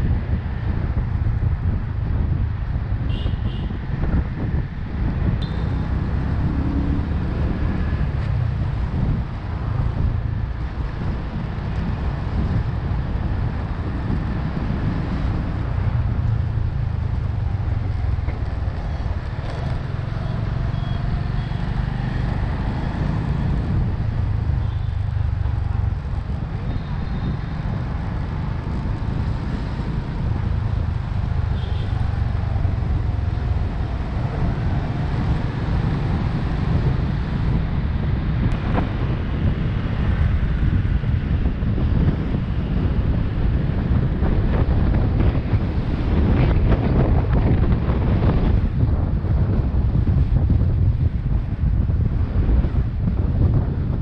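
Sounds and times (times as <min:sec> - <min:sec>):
street traffic: 0:00.0 - 0:54.0
wind rumbling on microphone: 0:00.0 - 0:54.0.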